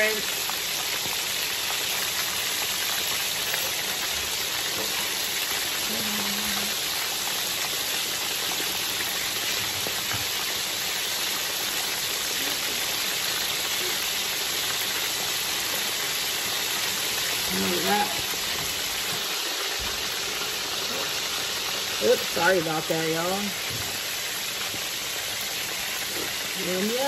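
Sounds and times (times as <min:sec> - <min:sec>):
fish sizzling in hot oil: 0:00.0 - 0:27.0.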